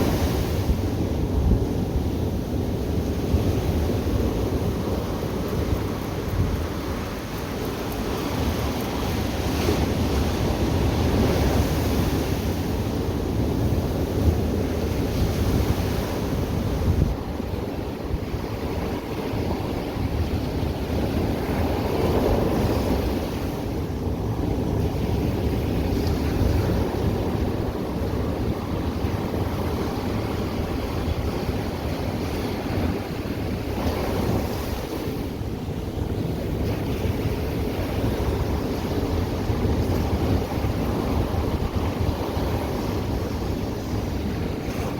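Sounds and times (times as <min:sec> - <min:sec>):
ocean waves breaking on beach: 0:00.0 - 0:44.9
wind buffeting microphone: 0:00.0 - 0:44.9.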